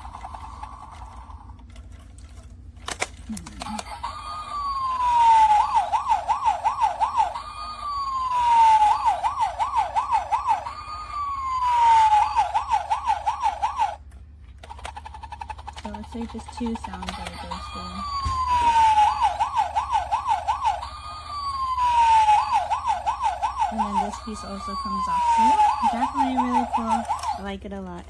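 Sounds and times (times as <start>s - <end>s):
toy electronic siren: 0.0s - 1.6s, 3.3s - 14.0s, 14.6s - 27.6s.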